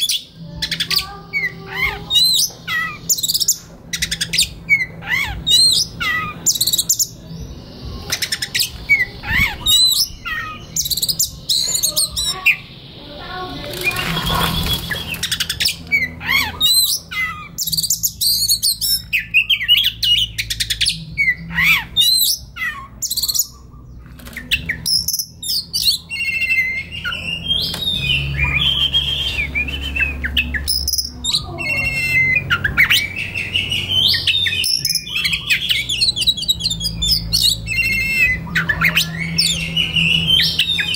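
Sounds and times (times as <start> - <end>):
songbird singing whistled notes: 0.0 - 40.9.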